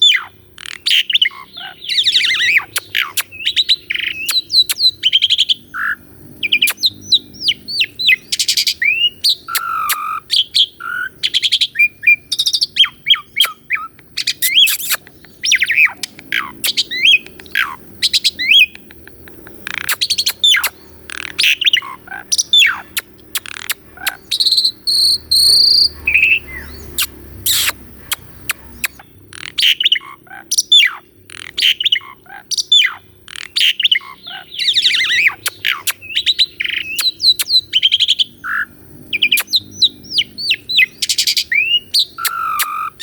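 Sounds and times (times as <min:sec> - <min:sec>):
starling singing: 0:00.0 - 0:43.0.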